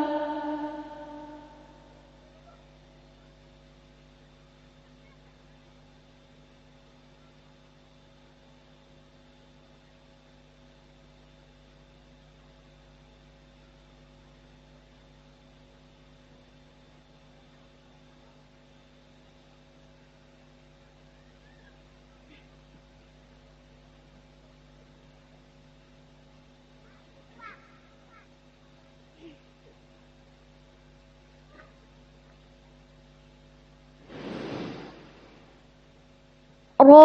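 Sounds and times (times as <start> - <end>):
faint electrical hum: 0.0 - 37.0.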